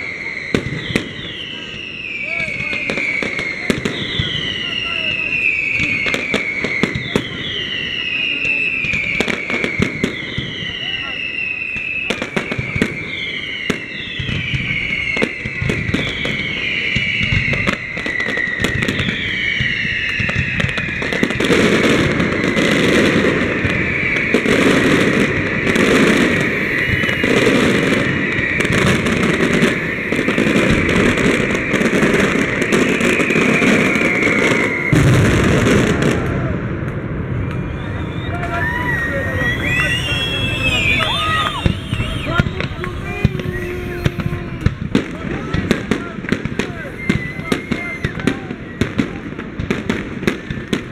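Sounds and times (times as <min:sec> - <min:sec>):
fireworks bangs and crackling: 0:00.0 - 0:50.9
fireworks whistles gliding down: 0:00.0 - 0:50.9.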